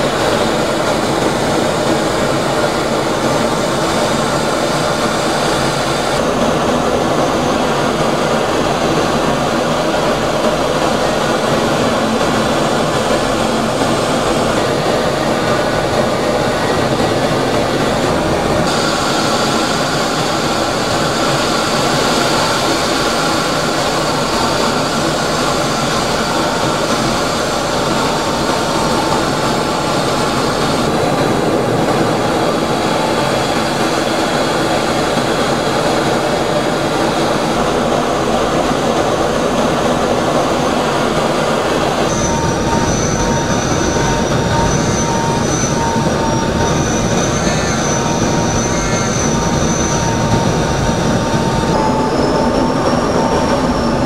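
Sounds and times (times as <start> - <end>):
faint high whine: 0.0 - 54.0
jet engine and air rushing: 0.0 - 54.0.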